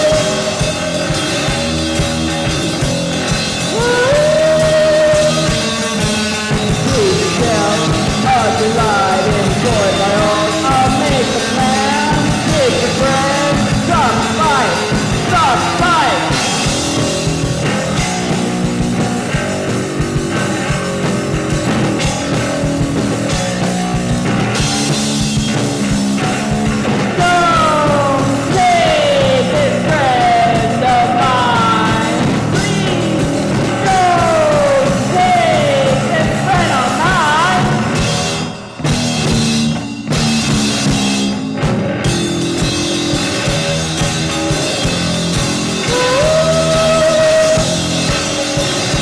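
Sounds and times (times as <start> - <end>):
high sliding lead guitar: 0.0 - 49.0
rock song with sustained chords: 0.0 - 49.0.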